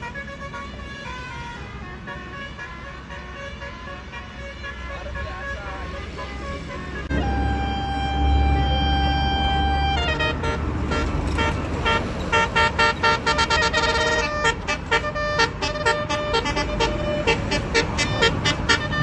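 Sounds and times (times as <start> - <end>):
bus musical horn melody: 0.0 - 19.0.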